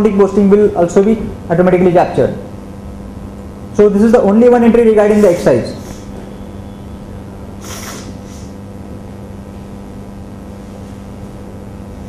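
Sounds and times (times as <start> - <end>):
electrical hum: 0.0 - 12.0
room noise: 0.0 - 12.0.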